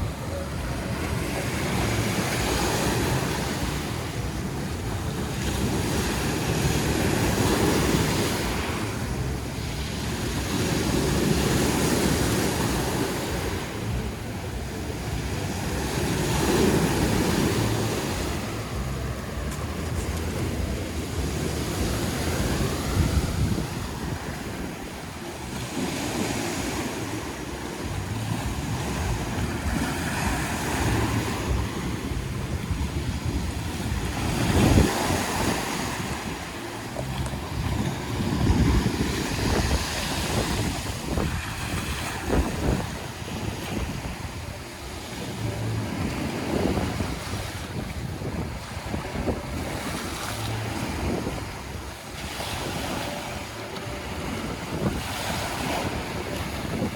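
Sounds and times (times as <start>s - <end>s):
waves washing onto shore: 0.0s - 56.9s
wind buffeting microphone: 0.0s - 56.9s.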